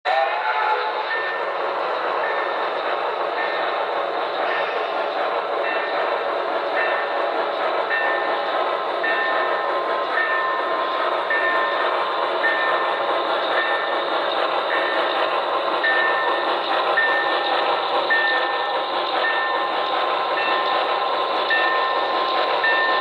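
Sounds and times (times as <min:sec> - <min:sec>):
model steam locomotive running: 0:00.1 - 0:23.0.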